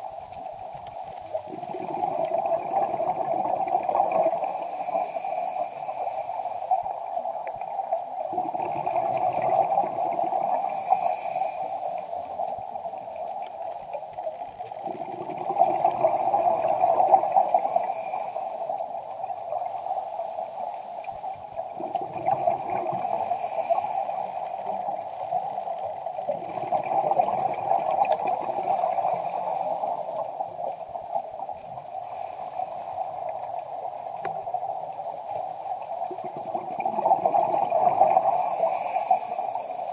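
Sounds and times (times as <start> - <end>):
steady underwater rushing: 0.0 - 39.9
underwater breath bubbling: 0.0 - 39.9.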